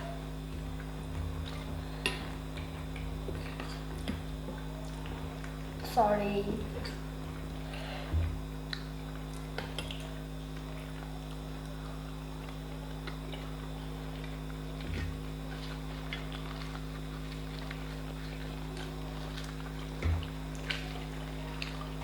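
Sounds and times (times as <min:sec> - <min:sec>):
electrical hum: 0:00.0 - 0:22.0
chewing and mouth clicks: 0:00.5 - 0:05.6, 0:08.6 - 0:22.0.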